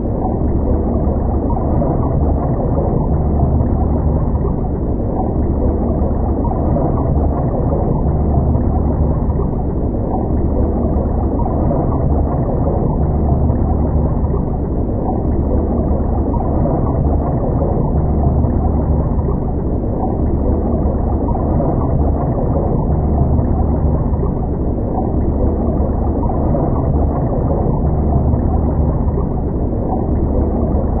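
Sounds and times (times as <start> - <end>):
low underwater rumble: 0.0 - 31.0.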